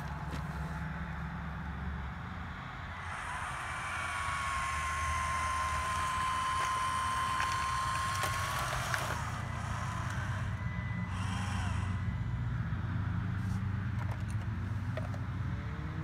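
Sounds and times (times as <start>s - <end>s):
small electric motor whining: 0.0s - 15.8s.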